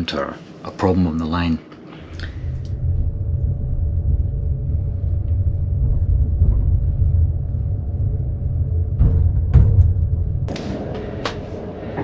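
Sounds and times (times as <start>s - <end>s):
faint steady hum: 0.0s - 12.0s
train rumbling: 2.0s - 12.0s.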